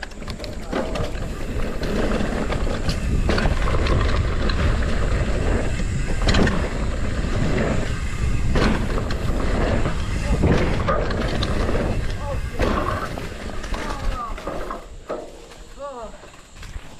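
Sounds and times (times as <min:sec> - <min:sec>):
bike clattering over bumps: 0:00.0 - 0:16.9
bike tyre rumble: 0:00.0 - 0:16.9
wind buffeting camera: 0:00.0 - 0:16.9.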